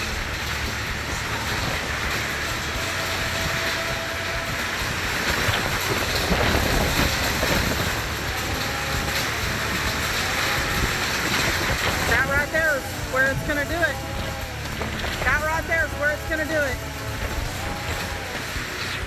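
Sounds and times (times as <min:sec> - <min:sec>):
rain: 0:00.0 - 0:19.0
wind: 0:00.0 - 0:19.0.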